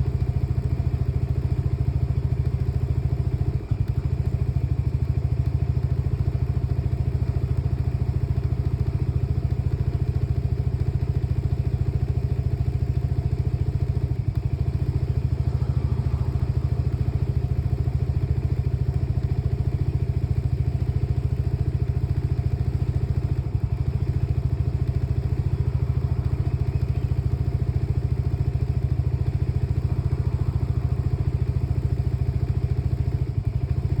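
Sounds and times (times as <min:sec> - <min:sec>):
scooter engine idling: 0:00.0 - 0:34.0.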